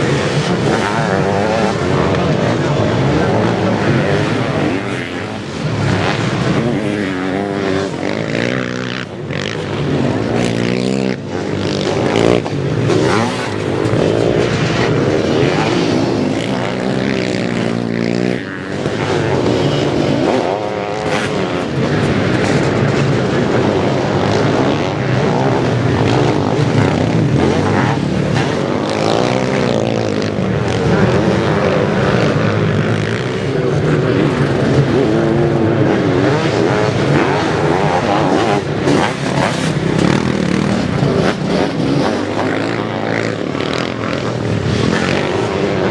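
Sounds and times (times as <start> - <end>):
racing engines revving: 0.0 - 45.9.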